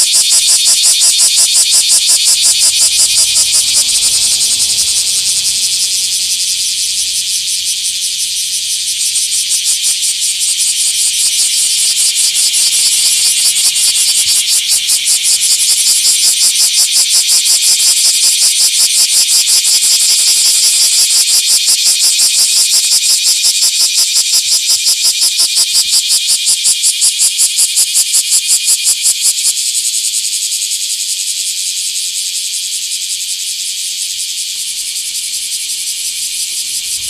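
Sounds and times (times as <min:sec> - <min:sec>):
cicadas buzzing: 0:00.0 - 0:37.0.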